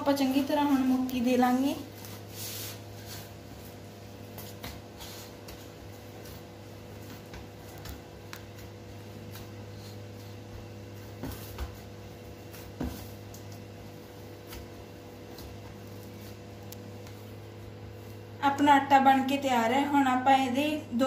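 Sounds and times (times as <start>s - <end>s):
dough squishing and knocking: 0.0s - 18.3s
steady background hum: 0.0s - 21.0s.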